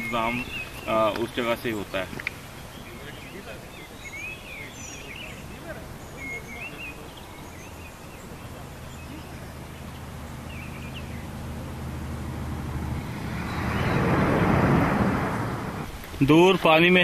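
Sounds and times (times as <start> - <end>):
bird chirps: 0.0 - 14.8
vehicle engine hum: 0.0 - 17.0.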